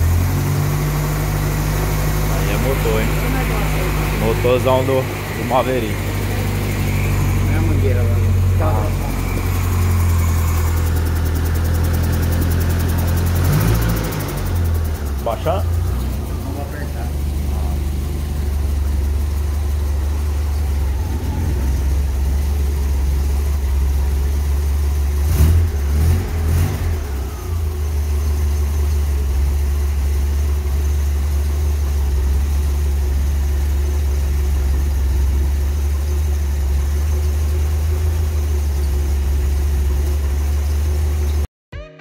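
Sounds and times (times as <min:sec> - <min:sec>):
car engine idling and revving: 0:00.0 - 0:41.5.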